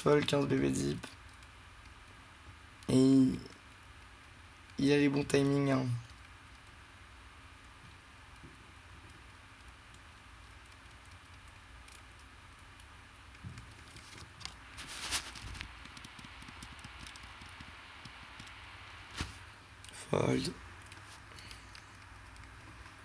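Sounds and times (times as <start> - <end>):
low background hum: 0.0 - 23.0
soft rustles and clicks: 3.5 - 23.0.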